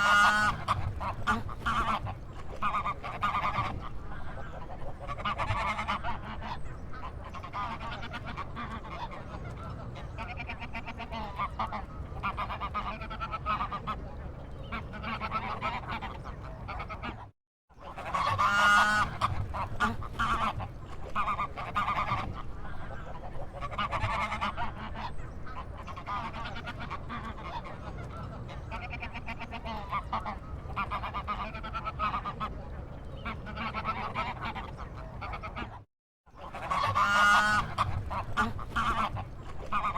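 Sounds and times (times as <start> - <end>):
waterfowl honking: 0.0 - 35.8, 36.4 - 39.9.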